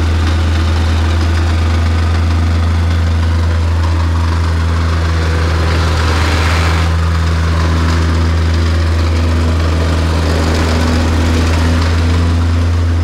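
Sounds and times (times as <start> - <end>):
vibratory plate compactor running: 0.0 - 13.0.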